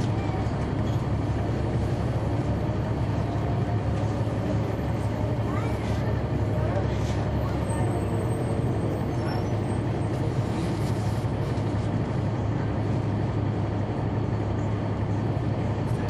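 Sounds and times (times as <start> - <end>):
bus diesel engine humming: 0.0 - 16.0.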